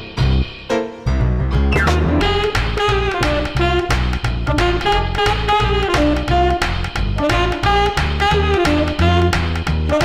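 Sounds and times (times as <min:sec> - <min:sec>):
upbeat jazzy music: 0:00.0 - 0:10.0.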